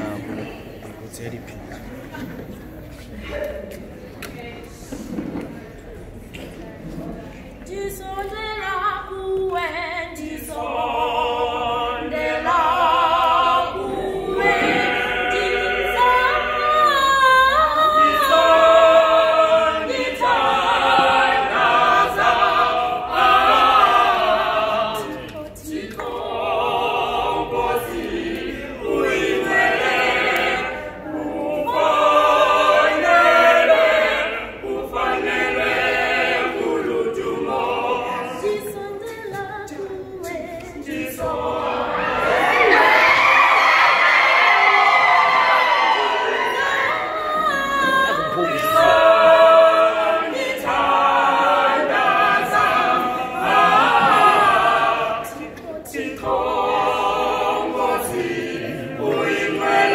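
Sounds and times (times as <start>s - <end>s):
group singing a cappella: 7.3s - 59.9s.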